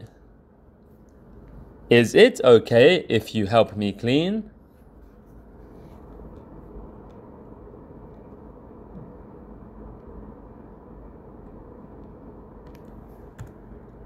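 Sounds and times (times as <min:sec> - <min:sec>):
room noise hum and hiss: 0:00.0 - 0:14.0.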